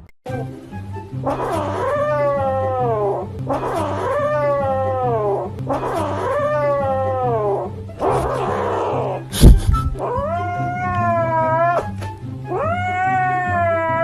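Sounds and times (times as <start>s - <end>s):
kitten yowling: 1.3s - 9.2s, 9.9s - 14.0s.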